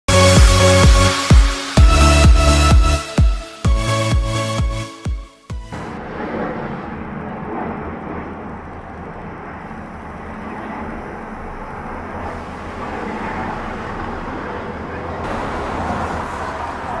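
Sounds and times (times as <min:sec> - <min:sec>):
jet engines humming: 0:00.1 - 0:17.0.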